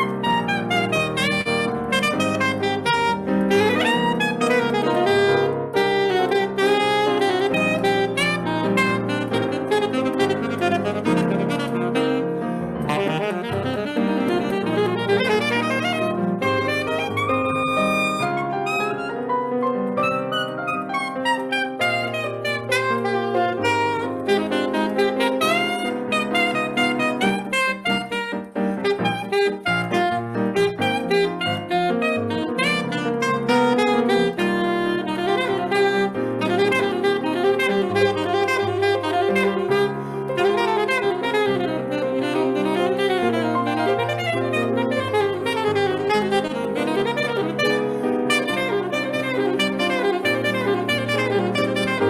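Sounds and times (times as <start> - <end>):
piano: 0.0 - 52.0
saxophone fast melodic runs: 0.0 - 52.0.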